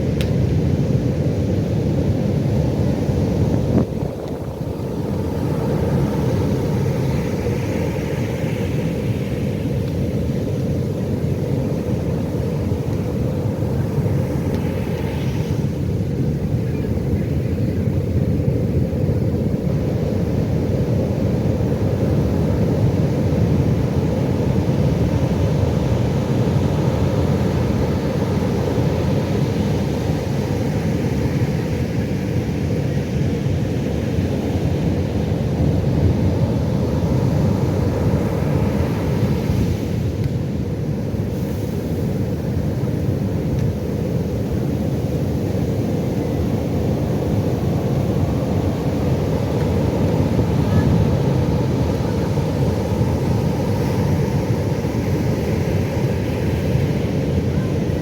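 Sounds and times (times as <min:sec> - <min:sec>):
ocean waves breaking: 0:02.0 - 0:16.1, 0:19.4 - 0:58.0.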